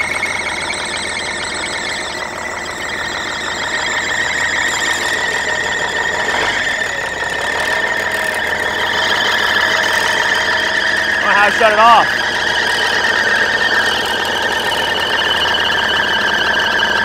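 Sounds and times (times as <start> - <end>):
belt squealing: 0.0 - 17.0
truck engine running: 0.0 - 17.0.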